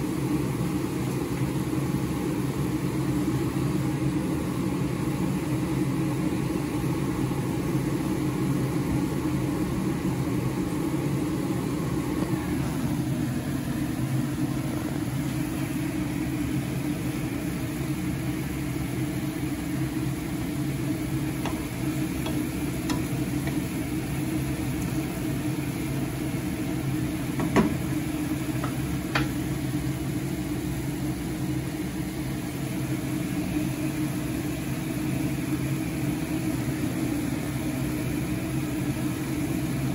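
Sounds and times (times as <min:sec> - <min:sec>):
food bubbling and sizzling in pan: 0:00.0 - 0:39.9.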